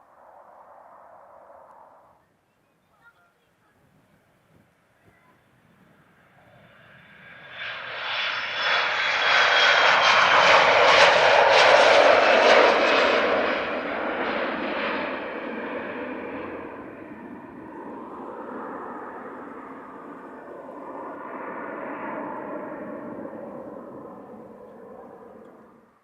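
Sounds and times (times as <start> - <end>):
jet aircraft passing: 0.0 - 2.2, 5.5 - 26.0.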